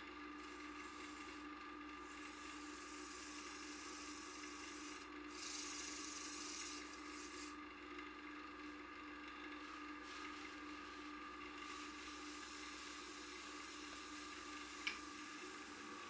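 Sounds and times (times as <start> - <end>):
wood lathe humming: 0.0 - 16.0
sandpaper rubbing spinning wood: 0.4 - 1.4, 2.0 - 7.6, 9.4 - 16.0.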